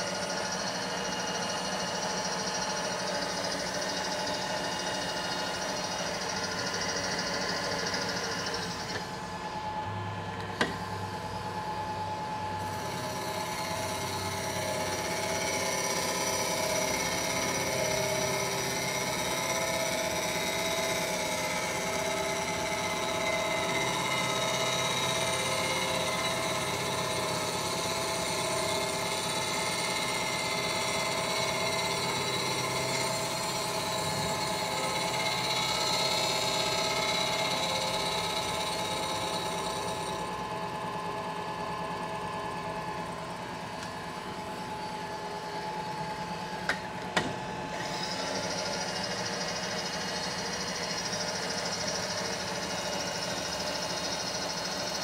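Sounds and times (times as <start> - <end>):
milling machine cutting metal: 0.0 - 55.0.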